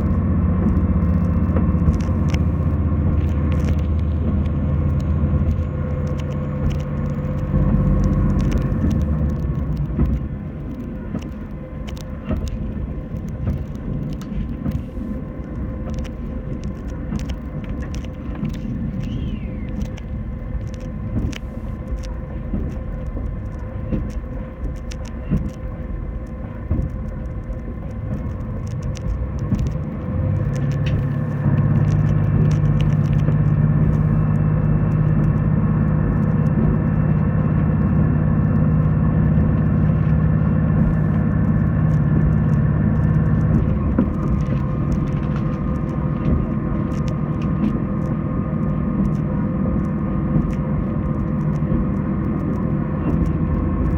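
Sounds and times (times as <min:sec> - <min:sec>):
sharp clicks: 0:00.0 - 0:53.9
train engine and wheels rumbling: 0:00.0 - 0:53.9.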